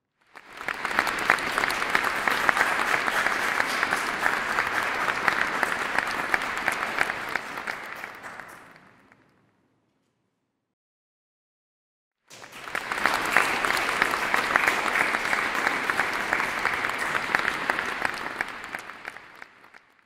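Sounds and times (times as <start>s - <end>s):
audience applauding: 0.2s - 9.3s, 12.3s - 20.0s.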